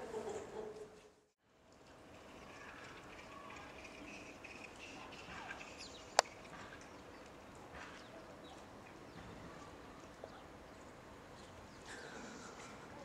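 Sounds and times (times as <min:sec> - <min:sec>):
small birds chirping: 0:02.4 - 0:13.0.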